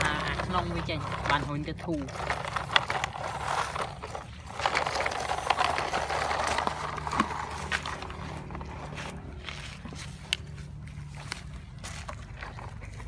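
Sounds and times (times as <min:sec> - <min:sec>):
grit crunching under toy truck: 0:00.0 - 0:13.0
hand scraping soil: 0:00.0 - 0:13.0.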